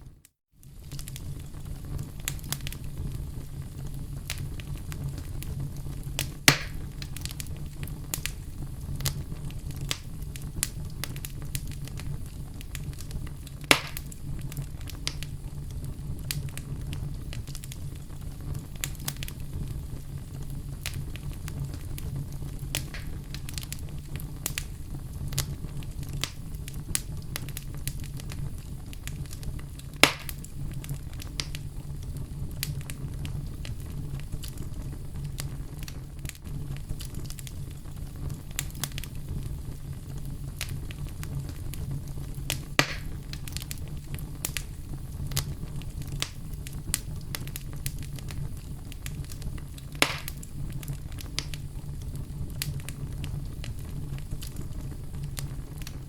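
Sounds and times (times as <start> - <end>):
low fire rumble: 0.0 - 56.0
loud fire pops: 0.6 - 56.0
wood fire crackling: 0.6 - 56.0.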